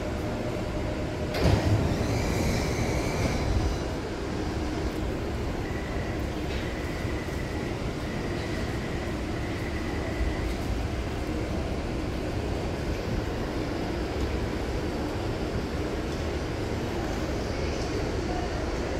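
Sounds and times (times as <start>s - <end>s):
metro train rumbling: 0.0s - 18.9s.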